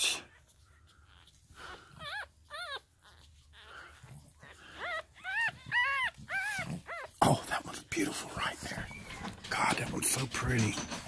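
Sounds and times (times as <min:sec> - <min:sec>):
puppies squeaking: 0:00.0 - 0:11.0.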